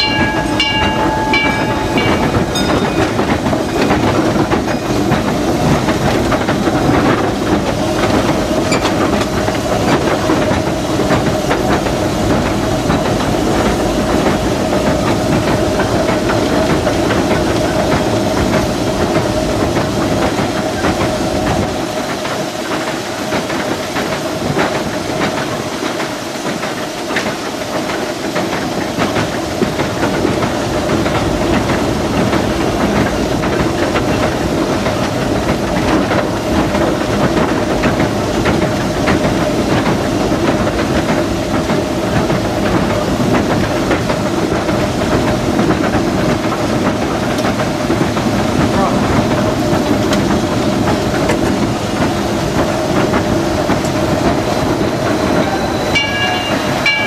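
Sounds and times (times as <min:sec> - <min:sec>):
wheels clicking over rail joints: 0:00.0 - 0:57.0.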